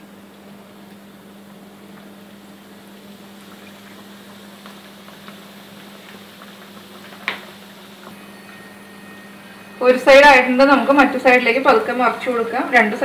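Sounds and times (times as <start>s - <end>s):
bread deep-frying in oil: 0.0s - 13.0s
low steady hum: 0.0s - 13.0s.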